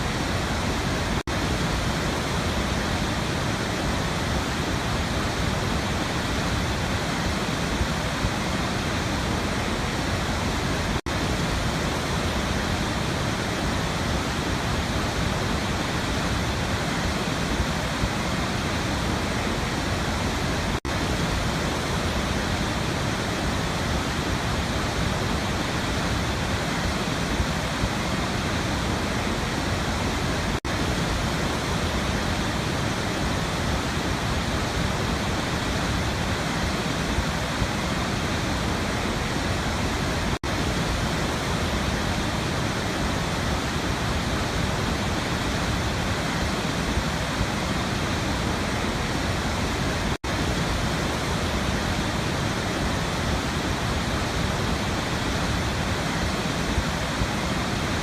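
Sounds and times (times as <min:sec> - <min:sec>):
waterfall roar: 0:00.0 - 0:58.0.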